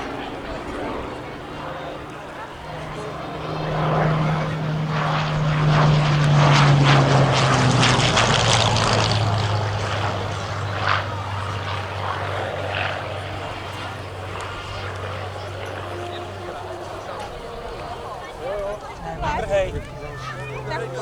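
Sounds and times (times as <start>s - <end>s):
aircraft engine flying past: 0.0s - 21.0s.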